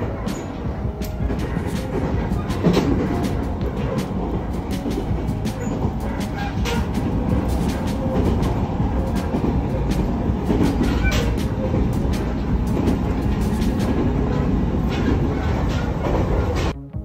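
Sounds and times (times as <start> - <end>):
train wheels rumbling on rails: 0.0 - 16.8.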